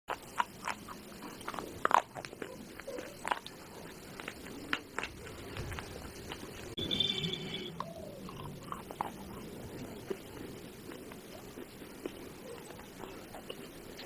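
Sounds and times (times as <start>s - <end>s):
chewing crunchy clay: 0.1s - 14.0s.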